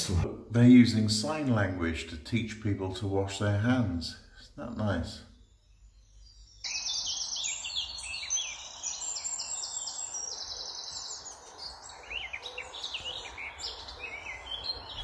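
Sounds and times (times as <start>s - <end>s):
songbirds trilling and chirping: 0.0s - 15.0s
steady background hiss: 0.0s - 15.0s.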